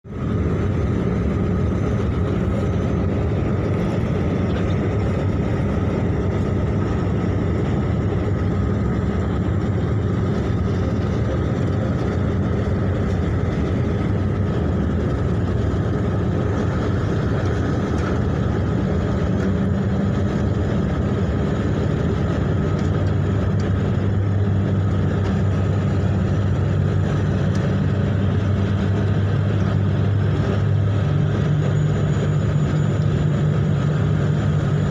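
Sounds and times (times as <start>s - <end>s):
ship engines droning: 0.0s - 34.9s.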